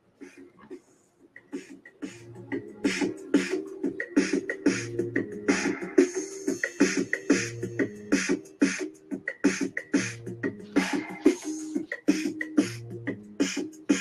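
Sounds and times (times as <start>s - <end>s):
music with percussive beat: 1.4s - 14.0s.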